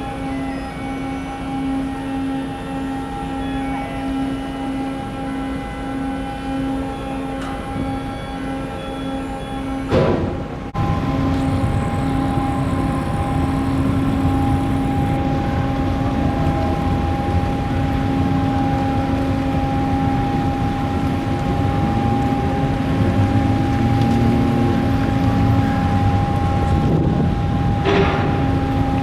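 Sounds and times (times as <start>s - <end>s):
ship engines droning: 0.0s - 29.0s.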